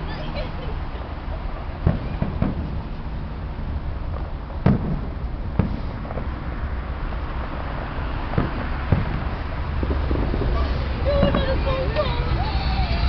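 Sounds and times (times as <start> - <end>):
steady low rumble: 0.0 - 13.0
fireworks bangs: 1.6 - 13.0.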